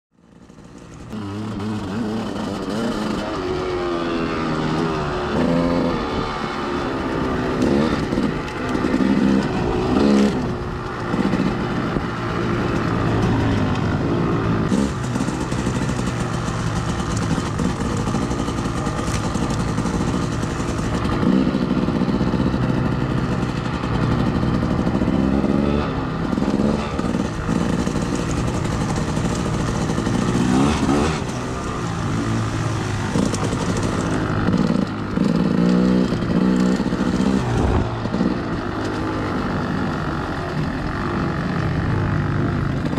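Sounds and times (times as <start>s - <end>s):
off-road engines revving: 0.3s - 42.9s.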